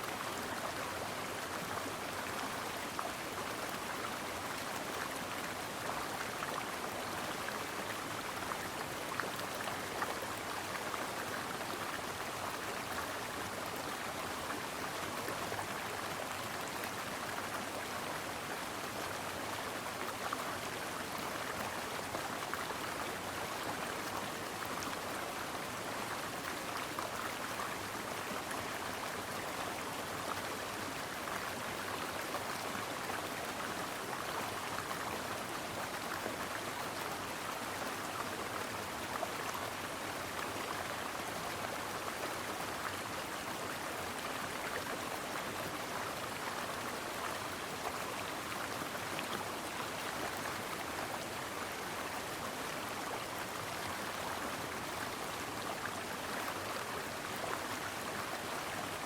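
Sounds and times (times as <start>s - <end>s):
brook flowing over stones: 0.0s - 59.0s.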